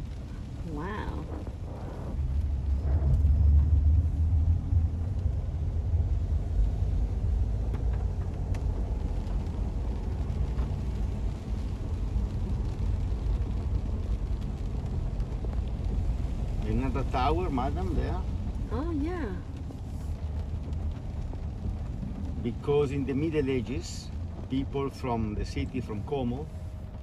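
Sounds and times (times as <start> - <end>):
car interior rumble: 0.0 - 27.0.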